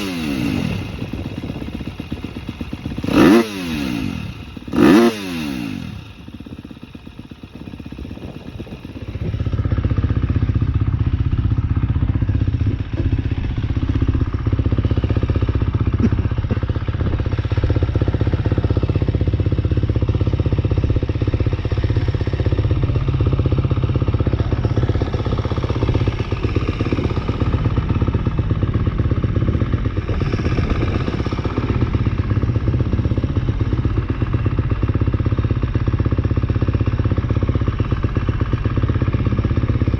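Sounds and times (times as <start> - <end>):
motocross engine idling: 0.0 - 39.9.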